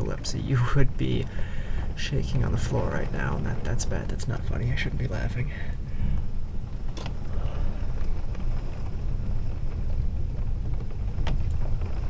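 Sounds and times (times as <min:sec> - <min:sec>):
low rumble of thunder: 0:00.0 - 0:12.0
rain: 0:00.0 - 0:12.0
wind: 0:00.0 - 0:12.0.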